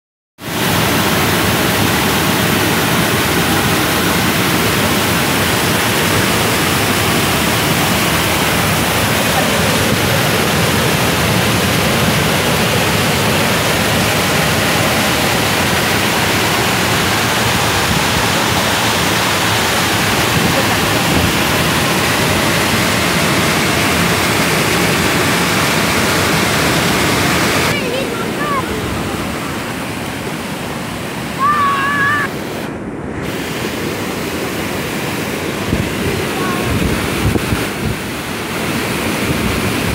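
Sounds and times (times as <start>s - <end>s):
water cascading over ledge: 0.4s - 39.9s.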